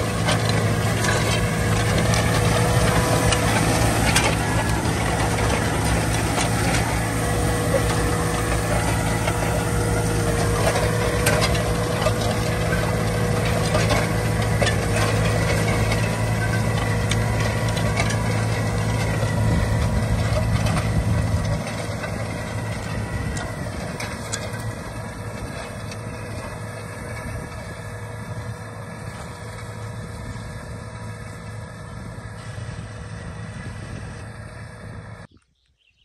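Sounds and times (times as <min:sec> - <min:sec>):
tractor diesel engine under load: 0:00.0 - 0:35.3.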